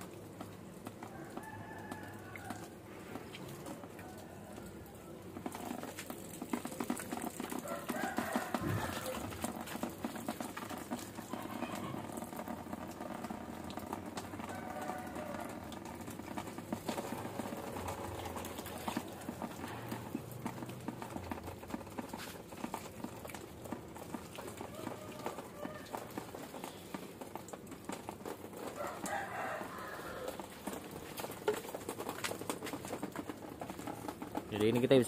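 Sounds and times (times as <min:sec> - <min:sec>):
water pouring onto leaves and soil: 0:00.0 - 0:35.0.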